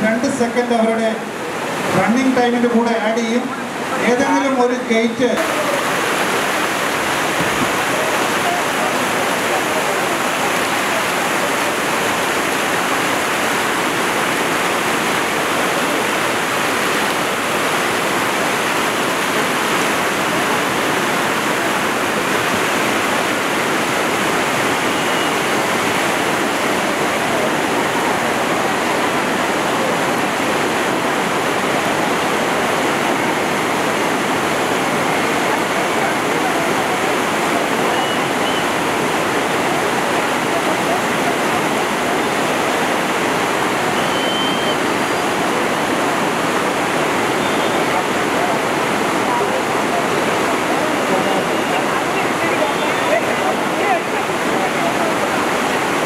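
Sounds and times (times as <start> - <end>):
river rapids rushing: 0.0 - 56.0.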